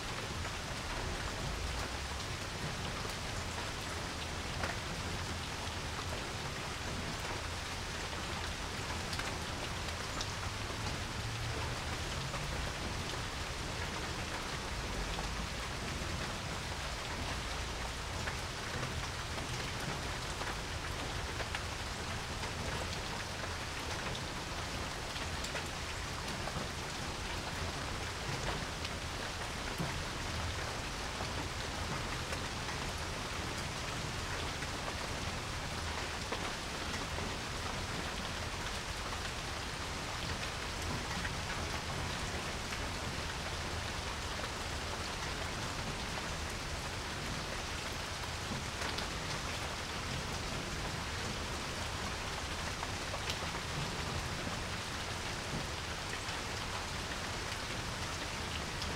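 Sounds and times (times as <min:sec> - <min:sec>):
rain falling on a porch: 0:00.0 - 0:58.9.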